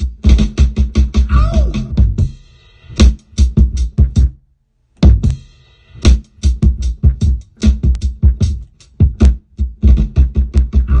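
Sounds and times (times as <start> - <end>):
drum break: 0.0 - 4.4, 5.0 - 11.0.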